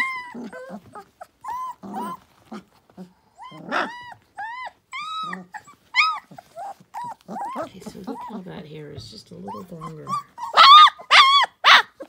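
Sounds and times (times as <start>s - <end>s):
puppies yipping and whining: 0.0s - 12.0s
puppy growls: 0.0s - 12.0s.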